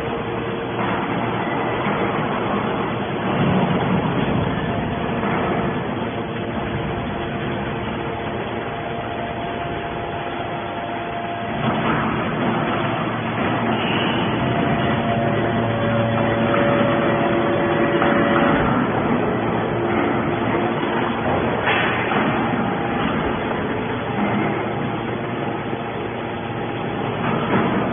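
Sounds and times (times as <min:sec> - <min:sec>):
scrap baler mechanical din: 0:00.0 - 0:27.9.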